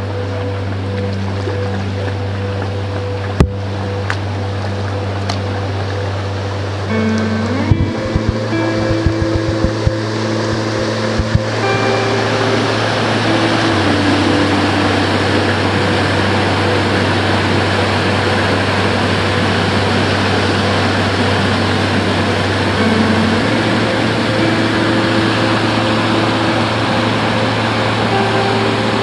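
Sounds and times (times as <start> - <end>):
water rushing through sluice: 0.0 - 29.0.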